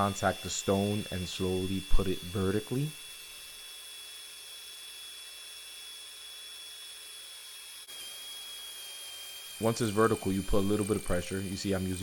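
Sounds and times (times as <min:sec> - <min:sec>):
drill hole saw whine: 0:00.0 - 0:12.0.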